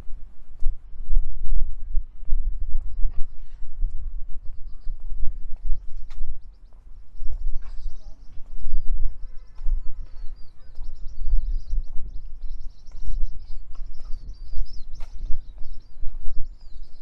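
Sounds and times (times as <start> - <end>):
small birds chirping: 2.8 - 17.0.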